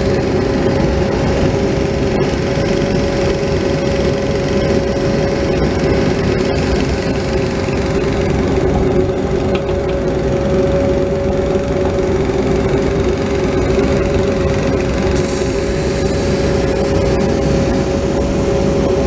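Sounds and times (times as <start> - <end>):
diesel engine running: 0.0 - 19.0
steady hydraulic hum: 0.0 - 19.0.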